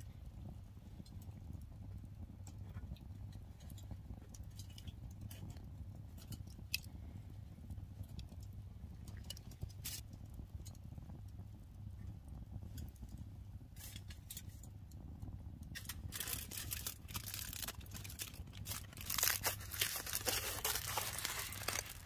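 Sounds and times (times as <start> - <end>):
cooking clicks and crackles: 0.0 - 22.0
low steady rumble: 0.0 - 22.0.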